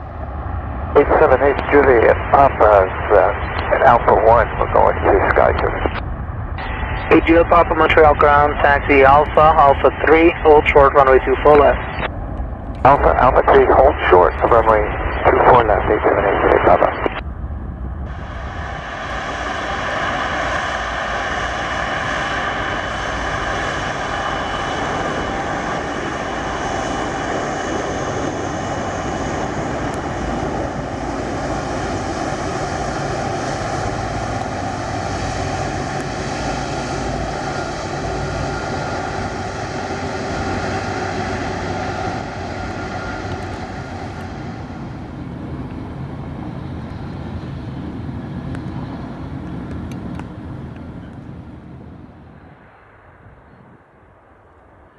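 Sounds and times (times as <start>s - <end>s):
jet engines roaring and whining: 0.0s - 54.9s.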